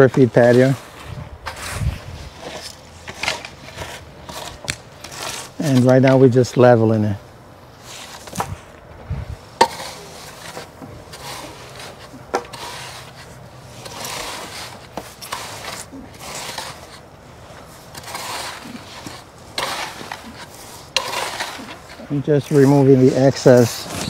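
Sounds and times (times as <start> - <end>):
board scraping stone dust: 0.0 - 7.1, 7.7 - 24.0.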